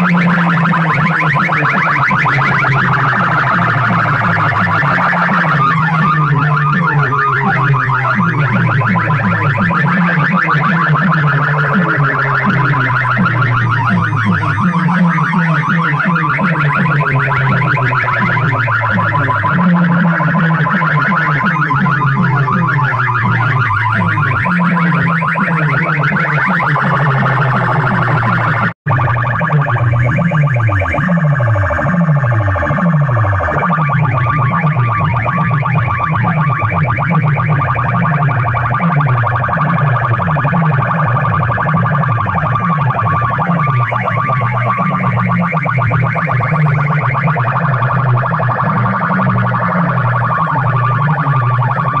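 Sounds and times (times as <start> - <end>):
heavy bass line: 0.0 - 52.0
rapid alarm-like chirp: 0.0 - 52.0
warbling electronic tone: 0.0 - 52.0.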